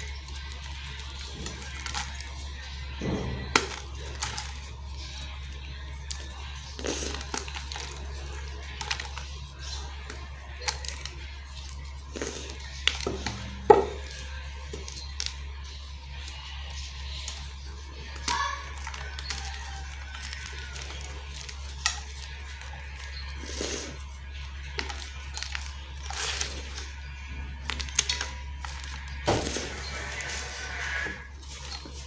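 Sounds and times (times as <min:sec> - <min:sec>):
chalk crunching and cracking: 0:00.0 - 0:32.0.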